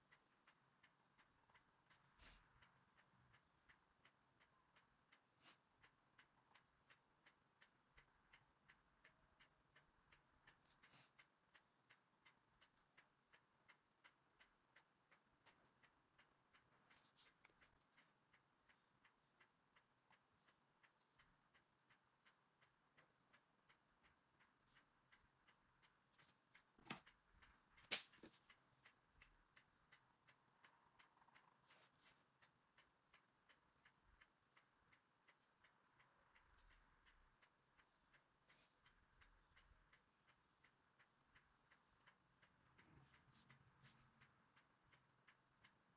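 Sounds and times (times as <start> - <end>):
faint clock ticking: 0.0 - 45.9.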